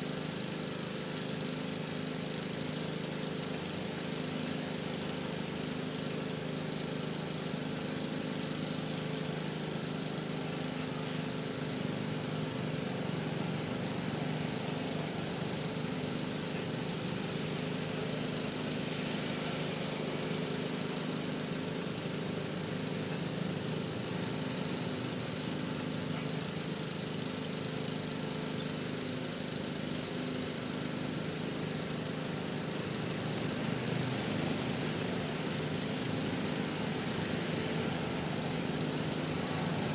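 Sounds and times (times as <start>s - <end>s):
small engine droning: 0.0s - 39.9s.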